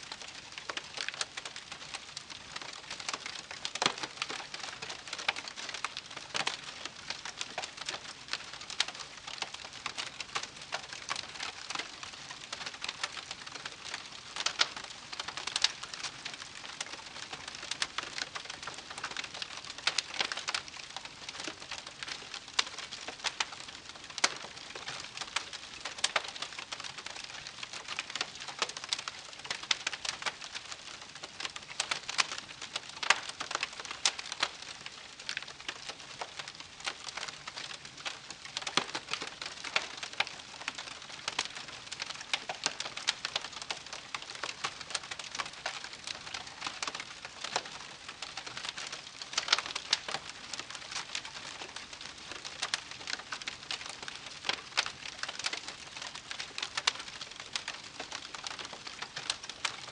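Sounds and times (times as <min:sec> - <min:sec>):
campfire crackling: 0:00.2 - 0:59.8.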